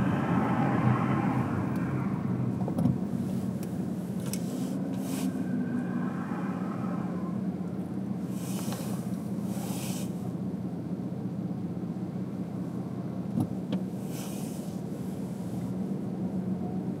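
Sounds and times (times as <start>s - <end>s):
car road and engine hum: 0.0s - 17.0s.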